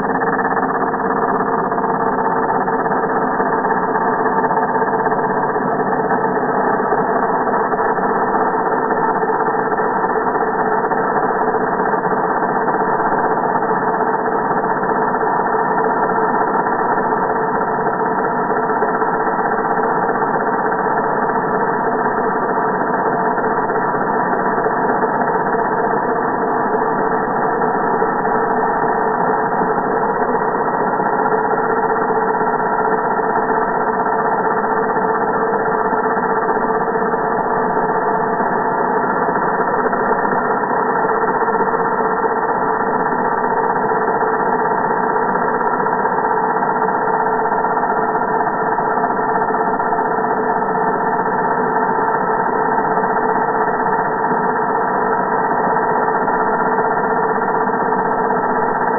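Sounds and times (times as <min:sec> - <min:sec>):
slowed angle grinder drone: 0:00.0 - 0:58.9.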